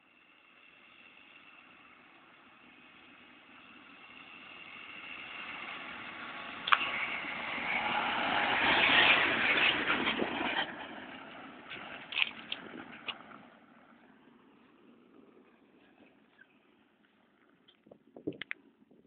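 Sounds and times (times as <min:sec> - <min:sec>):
tractor engine passing: 0:00.1 - 0:19.0.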